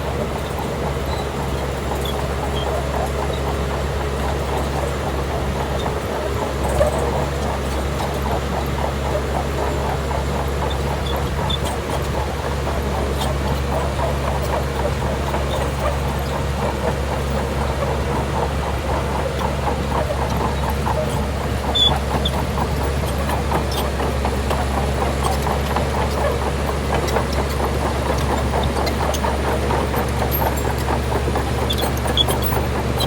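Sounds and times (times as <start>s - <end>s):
bulldozer diesel engine running: 0.0s - 33.0s
metallic clinking of crawler tracks: 0.0s - 33.0s.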